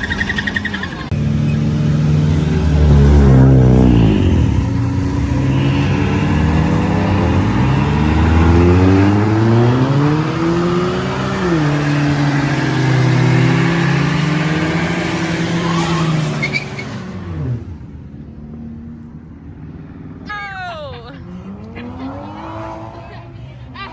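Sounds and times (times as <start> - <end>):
car engine revving: 0.0 - 20.3, 21.0 - 23.9.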